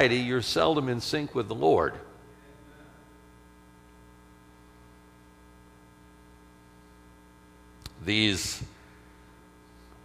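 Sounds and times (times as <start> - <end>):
faint electrical mains hum: 0.0 - 10.0.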